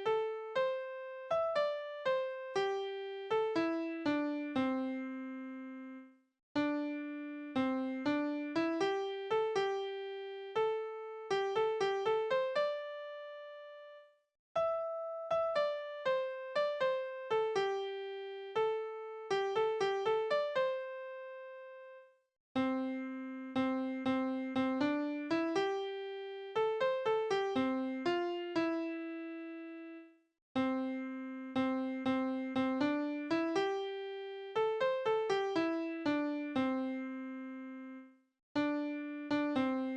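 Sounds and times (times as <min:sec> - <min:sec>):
computer piano melody: 0:00.0 - 0:14.0, 0:14.6 - 0:22.0, 0:22.6 - 0:39.9.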